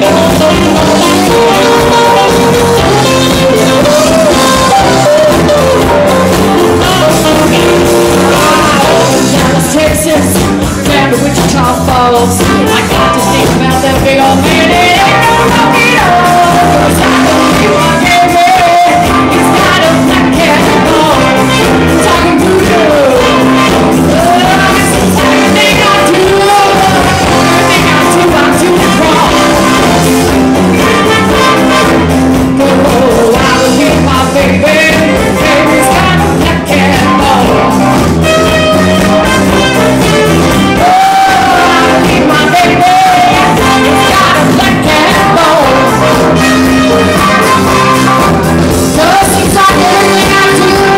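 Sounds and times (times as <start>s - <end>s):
live band playing: 0.0s - 50.9s
woman singing: 0.0s - 50.9s.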